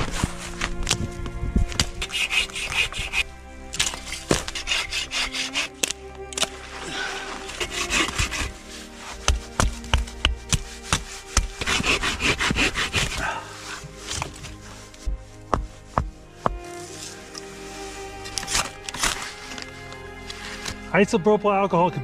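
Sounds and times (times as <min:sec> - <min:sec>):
scraping and rubbing: 0:00.0 - 0:20.9
background music: 0:00.0 - 0:22.0.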